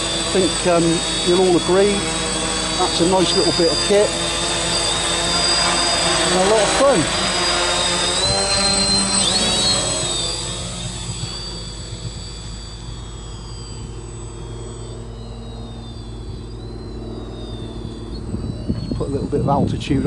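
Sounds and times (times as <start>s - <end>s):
quadcopter propellers buzzing: 0.0s - 20.0s.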